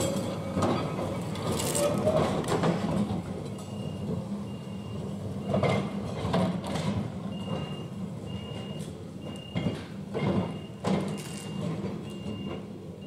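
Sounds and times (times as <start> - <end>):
tram rolling on track: 0.0 - 13.0
tram wheels clunking: 0.0 - 13.0.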